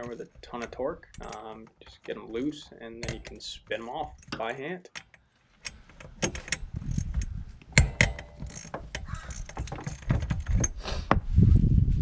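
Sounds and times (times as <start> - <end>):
sharp metal knocks: 0.0 - 10.8
socket ratchet clicking: 0.6 - 10.8.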